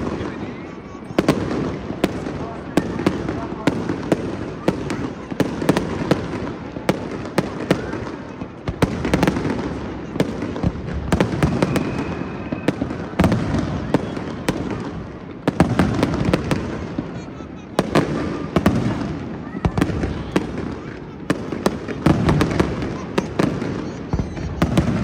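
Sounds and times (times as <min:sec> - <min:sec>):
fireworks bangs and cracks: 0:00.0 - 0:25.0.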